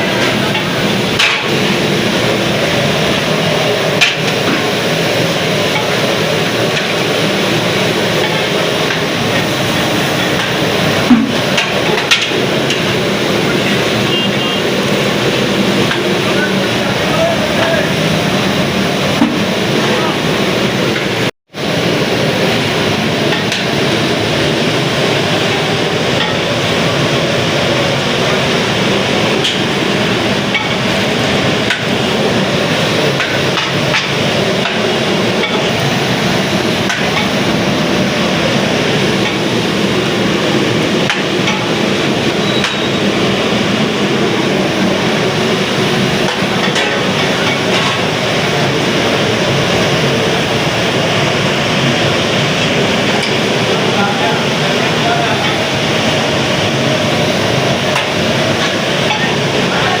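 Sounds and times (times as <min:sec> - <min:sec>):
street stall din: 0:00.0 - 1:00.0.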